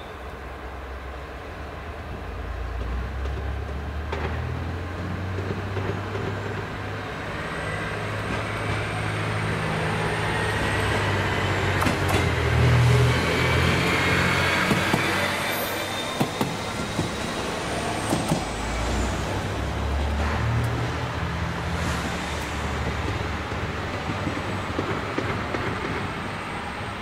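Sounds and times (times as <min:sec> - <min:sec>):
diesel railcar engine rumble: 0:00.0 - 0:27.0.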